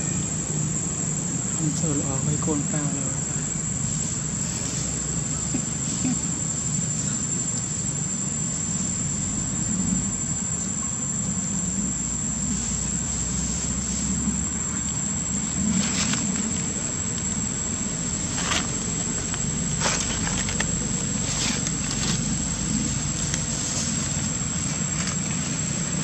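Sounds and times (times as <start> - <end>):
high-pitched insect drone: 0.0 - 26.0
traffic rumble: 0.0 - 26.0.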